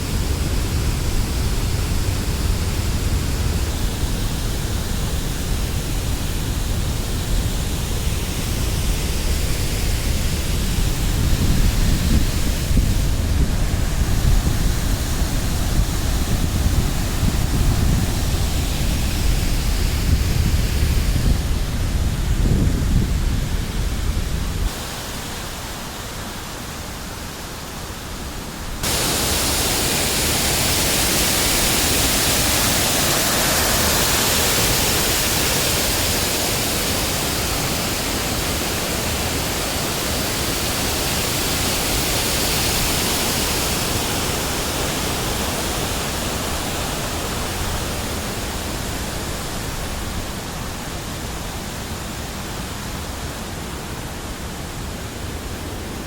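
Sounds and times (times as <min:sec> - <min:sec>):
water rushing hiss: 0:00.0 - 0:56.0.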